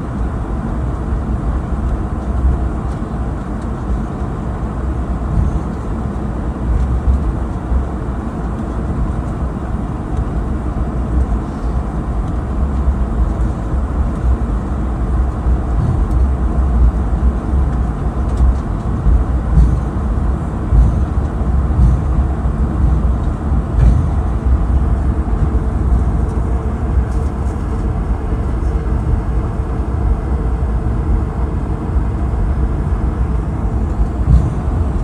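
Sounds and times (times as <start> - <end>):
aircraft engines rumbling in cabin: 0.0 - 35.0.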